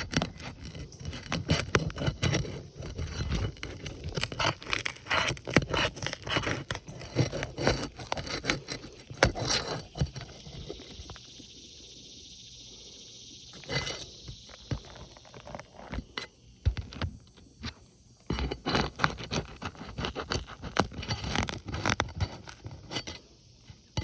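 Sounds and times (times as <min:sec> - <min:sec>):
scraping and crackling shingles: 0:00.0 - 0:11.4, 0:13.5 - 0:24.0.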